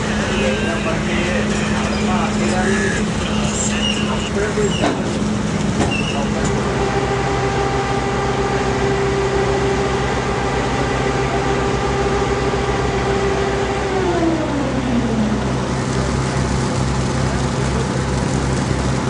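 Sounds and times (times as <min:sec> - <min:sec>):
ferry engine humming: 0:00.0 - 0:19.0.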